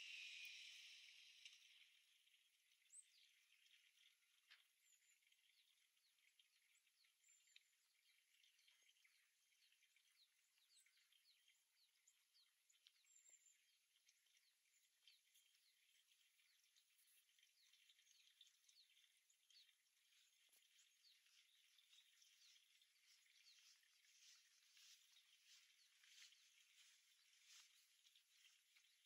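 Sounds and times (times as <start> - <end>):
faint distant birdsong: 0.0 - 29.0.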